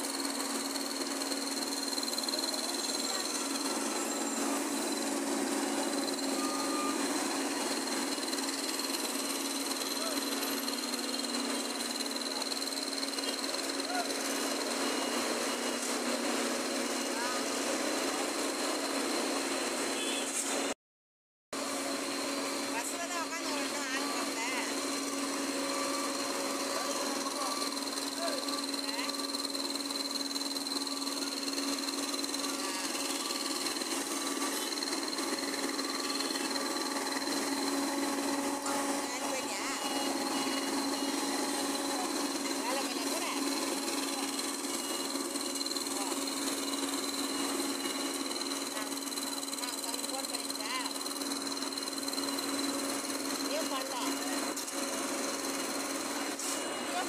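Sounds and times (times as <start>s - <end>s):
road roller engine droning: 0.0s - 20.7s, 21.6s - 57.0s.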